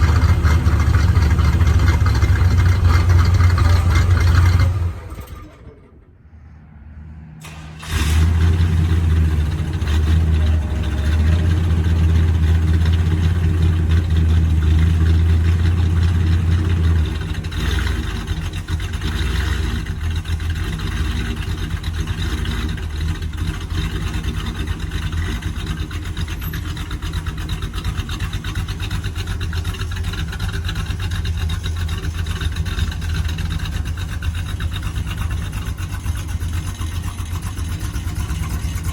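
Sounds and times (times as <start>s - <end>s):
car engine idling: 0.0s - 6.5s, 7.4s - 38.9s.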